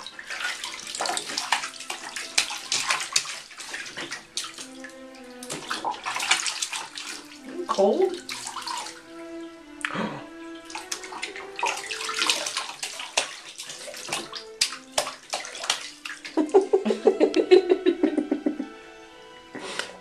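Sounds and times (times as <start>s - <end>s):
water pouring: 0.0s - 17.0s
hands slapping water: 0.0s - 18.6s.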